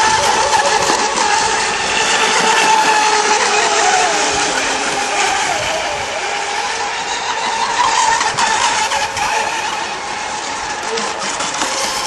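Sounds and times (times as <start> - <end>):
model boat motors whining: 0.0 - 12.0.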